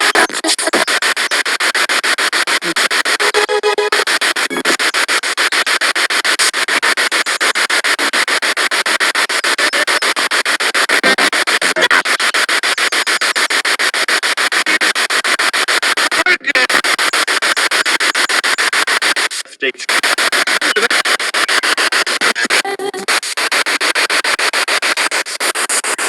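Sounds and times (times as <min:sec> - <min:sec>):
pulsing radio static: 0:00.0 - 0:26.0.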